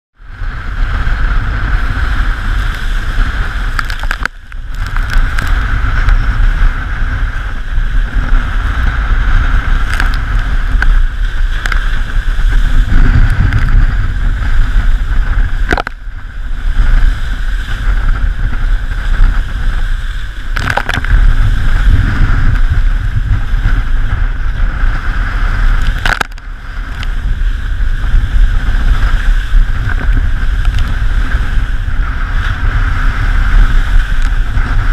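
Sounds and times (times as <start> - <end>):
water rushing past a hull: 0.2 - 34.9
wind buffeting microphone: 0.2 - 34.9.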